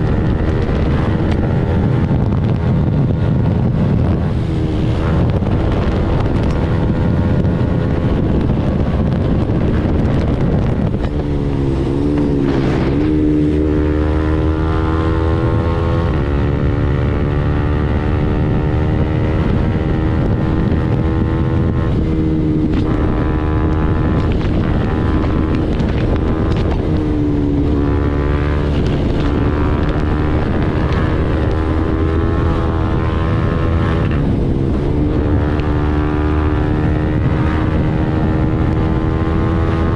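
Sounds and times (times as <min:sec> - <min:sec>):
motorcycle engine at highway speed: 0:00.0 - 0:39.9
wind buffeting on microphone: 0:00.0 - 0:39.9.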